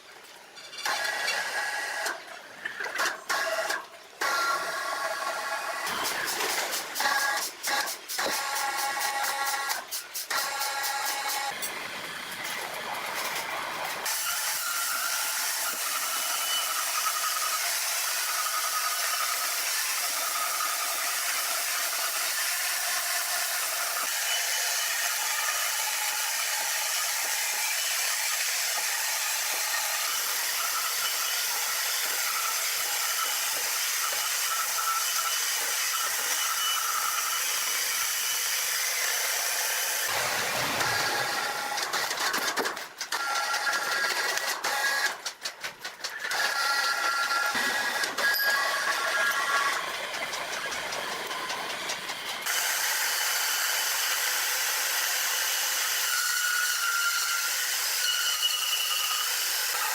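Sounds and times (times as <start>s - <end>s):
sawmill machinery running: 3.0s - 59.9s.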